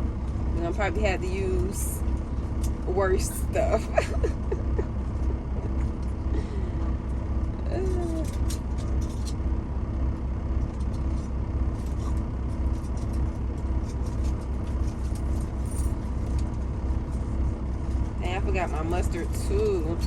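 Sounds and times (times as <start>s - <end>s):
diesel truck engine rumbling: 0.0s - 20.0s
faint steady hum: 0.0s - 20.0s.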